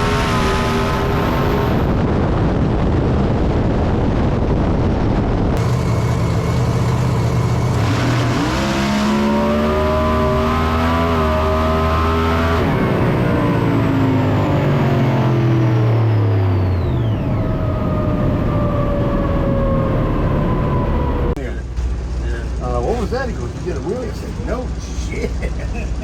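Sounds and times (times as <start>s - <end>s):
race car engines at high revs: 0.0s - 2.0s, 5.6s - 26.0s.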